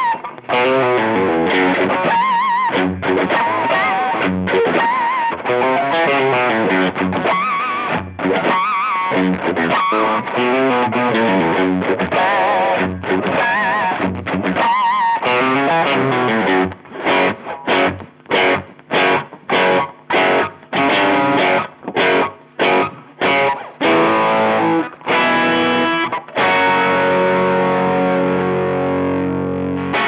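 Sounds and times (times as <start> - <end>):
distorted electric guitar: 0.0 - 30.0.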